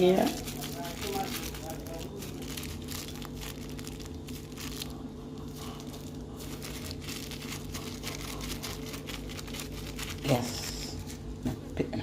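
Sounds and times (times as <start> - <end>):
crinkling and rustling: 0.0 - 11.8.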